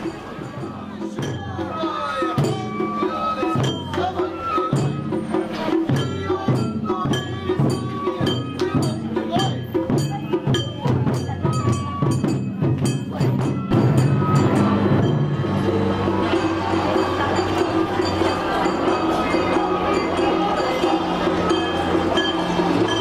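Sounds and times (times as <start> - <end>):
taiko drums beaten with sticks: 0.0 - 23.0.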